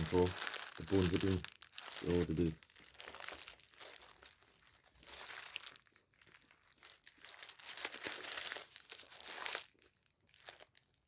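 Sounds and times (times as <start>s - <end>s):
food wrapping crinkling and tearing: 0.0s - 11.0s.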